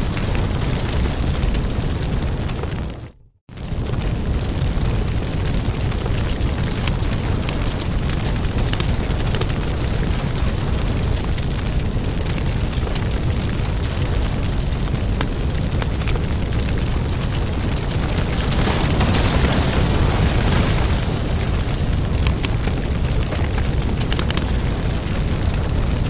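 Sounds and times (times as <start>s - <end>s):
fire flames rumbling: 0.0s - 26.0s
logs crackling and popping: 0.0s - 26.0s.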